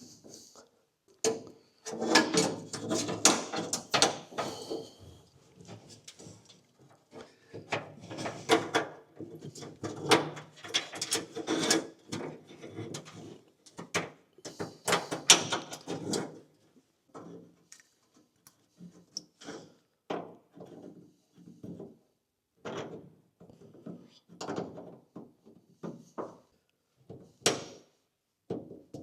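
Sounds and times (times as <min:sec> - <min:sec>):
knocks and scraping from hand work: 0:01.1 - 0:29.0.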